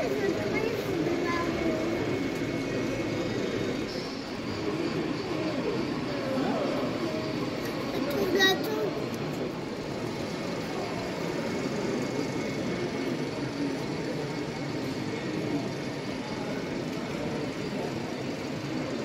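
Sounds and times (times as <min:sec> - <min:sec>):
exhibition hall hubbub: 0:00.0 - 0:19.0
faint distant voices: 0:00.0 - 0:19.0.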